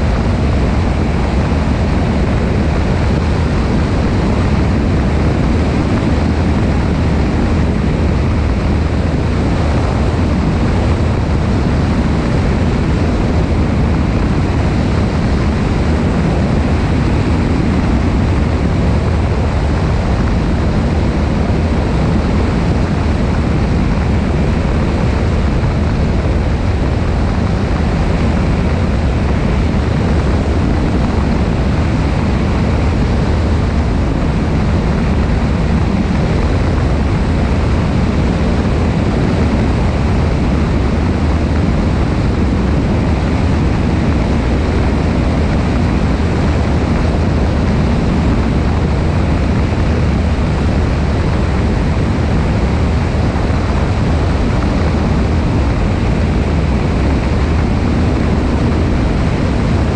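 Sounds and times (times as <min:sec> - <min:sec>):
airplane engine and propeller drone: 0:00.0 - 0:59.9
wind rushing over microphone: 0:00.0 - 0:59.9.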